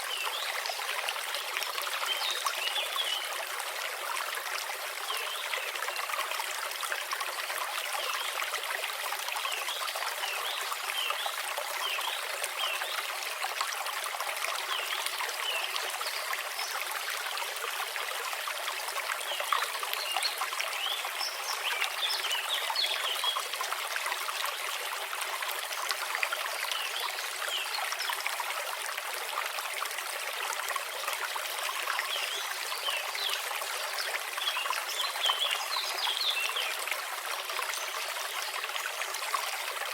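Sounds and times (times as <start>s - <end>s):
brook water trickling and bubbling: 0.0s - 39.9s.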